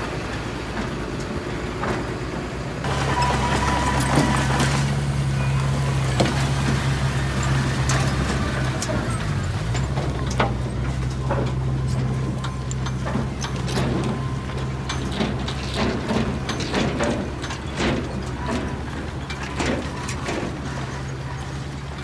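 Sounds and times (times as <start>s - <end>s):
diesel engine running: 0.0s - 22.0s
metal clanks and knocks: 0.6s - 22.0s.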